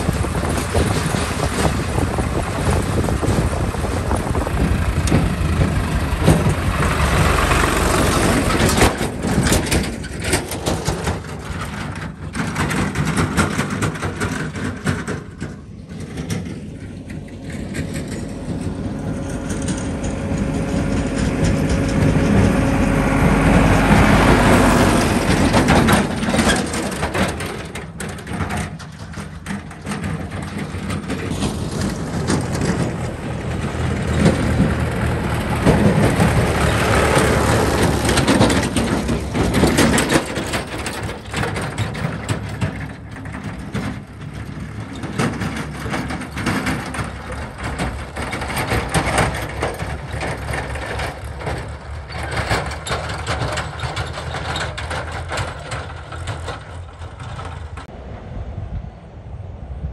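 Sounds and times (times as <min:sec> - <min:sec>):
knocks and rattles: 0:00.0 - 0:58.0
tractor engines running: 0:00.0 - 0:59.9.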